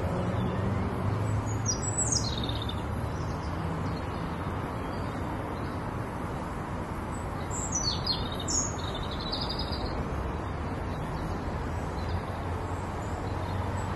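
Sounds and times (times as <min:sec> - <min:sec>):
small birds chirping: 0:00.3 - 0:05.9, 0:07.0 - 0:13.9.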